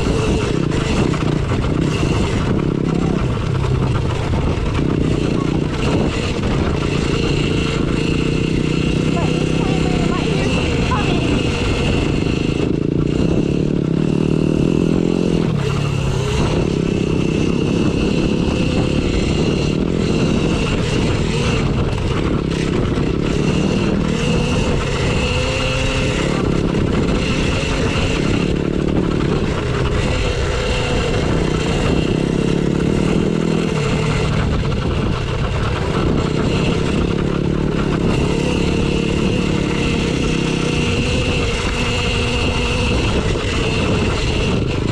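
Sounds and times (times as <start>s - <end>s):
dirt bike motor running: 0.0s - 44.9s
wind on microphone: 0.0s - 44.9s.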